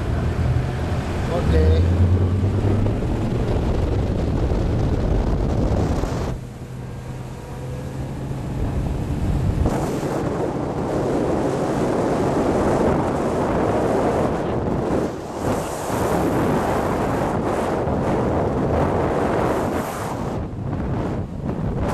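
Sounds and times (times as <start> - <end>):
rushing water: 0.0 - 17.6
motorboat engine hum: 0.0 - 21.9
wind buffeting microphone: 0.0 - 21.9.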